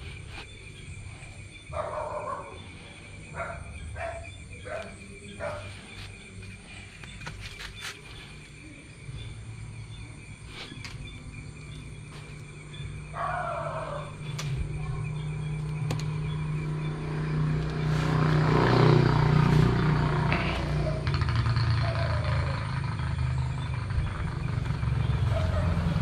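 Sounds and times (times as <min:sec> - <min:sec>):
low engine rumble: 0:00.0 - 0:26.0
night insects trilling: 0:00.0 - 0:26.0.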